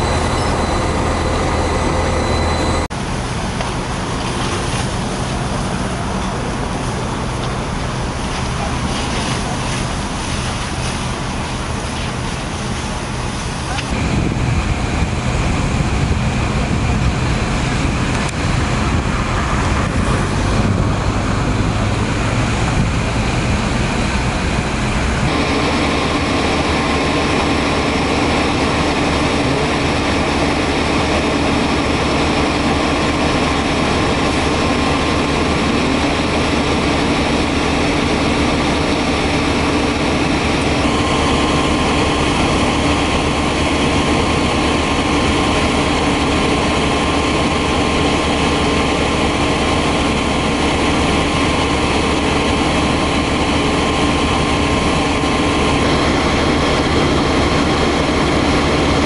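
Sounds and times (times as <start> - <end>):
diesel engines driving pumps: 0.0 - 59.0
engine hum with held tones: 0.0 - 59.0
water rushing noise: 0.0 - 59.0.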